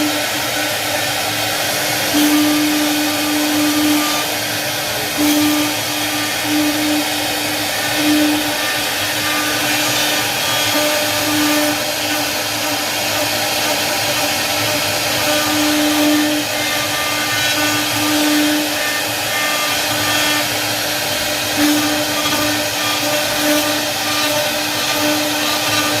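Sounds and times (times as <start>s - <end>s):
cnc machine whirring: 0.0s - 26.0s.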